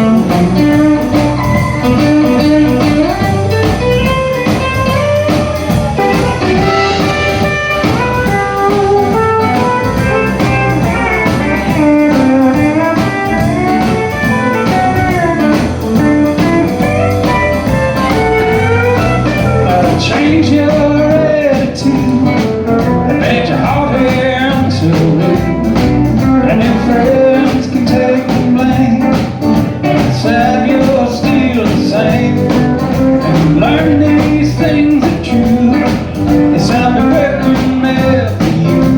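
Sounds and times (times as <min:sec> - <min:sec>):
guitar lead with bending notes: 0:00.0 - 0:38.9
steady drum beat: 0:00.0 - 0:38.9.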